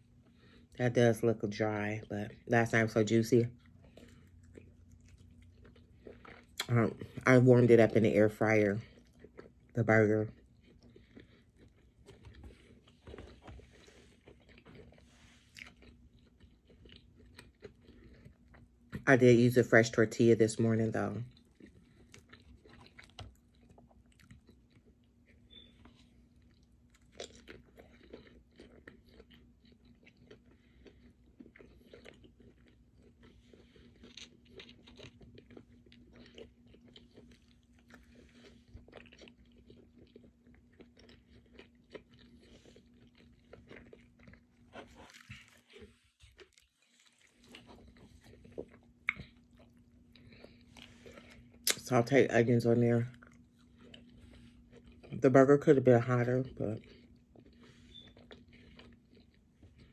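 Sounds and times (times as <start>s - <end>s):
chewing and biting: 3.4s - 19.1s, 21.0s - 52.1s, 52.8s - 59.9s.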